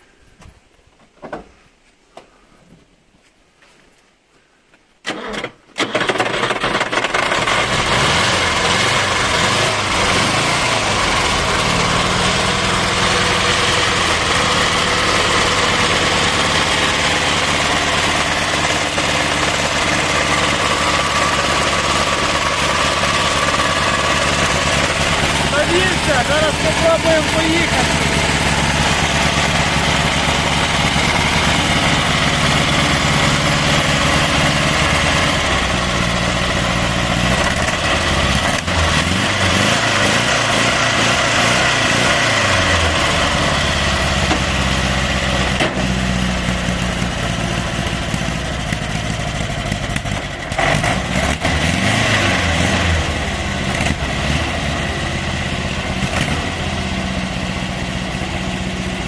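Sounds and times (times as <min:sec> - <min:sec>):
car engine revving: 0:06.4 - 0:57.4.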